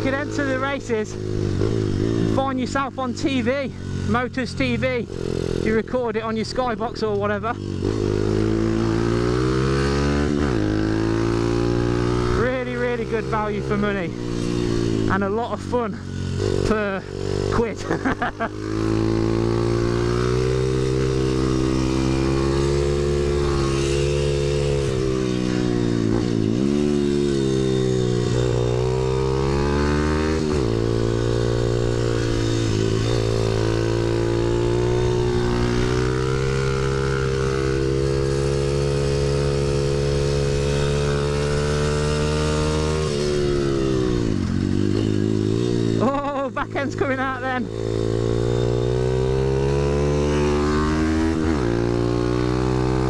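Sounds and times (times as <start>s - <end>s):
pit bike engine revving: 0.0s - 53.0s.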